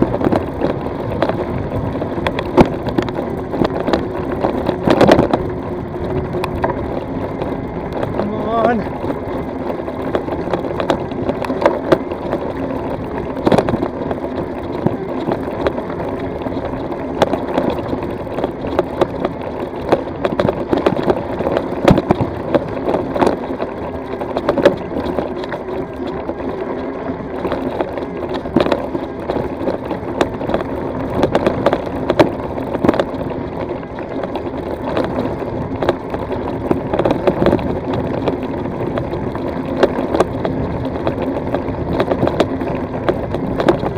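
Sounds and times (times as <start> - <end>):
bike tyres crunching on gravel: 0.0 - 43.9
wheels knocking on stones: 0.0 - 43.9.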